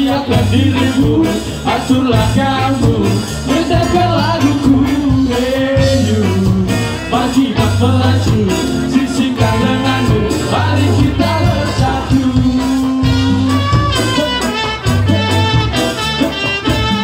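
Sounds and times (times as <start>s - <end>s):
bass line: 0.0s - 17.0s
drums: 0.0s - 17.0s
electric guitars: 0.0s - 17.0s
trombone and trumpet: 0.0s - 17.0s.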